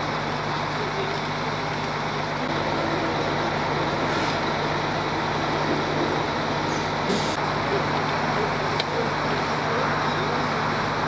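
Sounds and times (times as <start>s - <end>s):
heavy engine humming: 0.0s - 11.0s.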